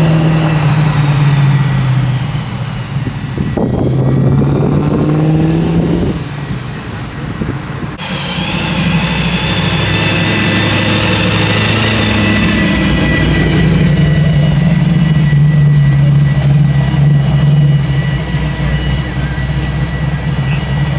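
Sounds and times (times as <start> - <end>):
car engine running at low speed: 0.0 - 20.9
supercharger whine: 0.0 - 20.9.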